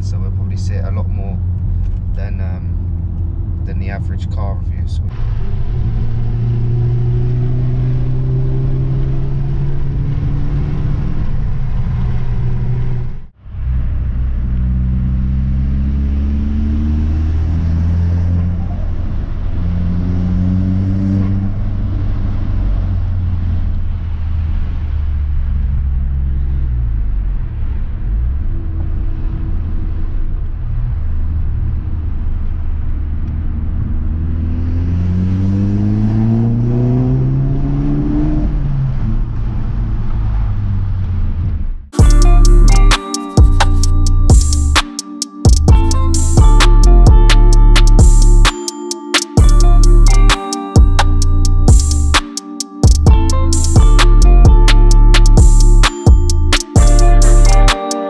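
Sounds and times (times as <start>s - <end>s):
car engine accelerating: 0.0s - 48.5s, 49.4s - 57.9s.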